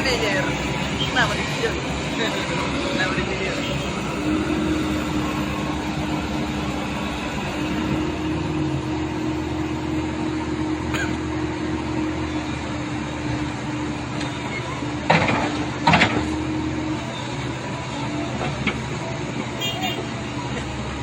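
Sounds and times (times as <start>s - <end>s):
heavy machinery engine running: 0.0s - 21.0s.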